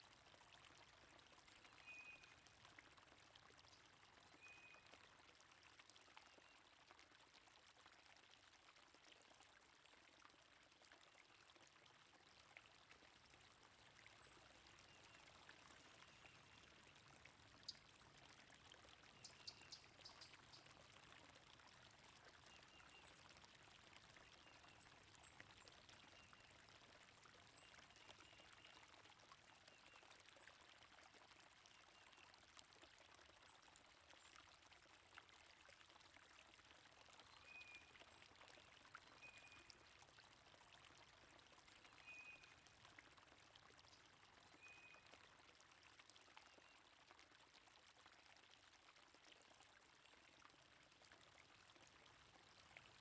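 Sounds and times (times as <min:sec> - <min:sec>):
faint stream water flowing: 0:00.0 - 0:53.0.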